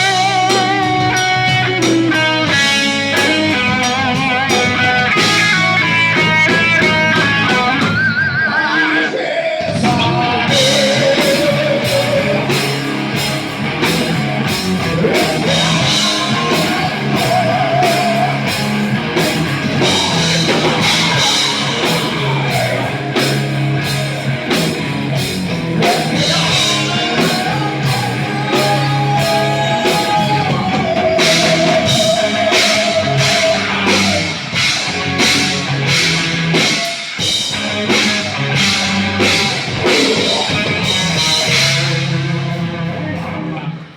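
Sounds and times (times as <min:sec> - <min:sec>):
drum kit: 0:00.0 - 0:08.4, 0:09.6 - 0:43.9
distorted guitar: 0:00.0 - 0:43.9
lead vocal melody: 0:00.0 - 0:43.9.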